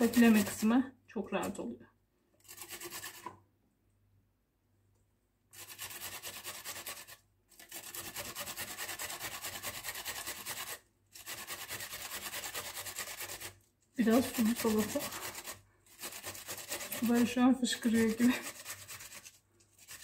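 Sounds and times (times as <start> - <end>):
cucumber rasping on a grater: 0.0 - 0.8, 2.4 - 3.4, 5.5 - 20.0.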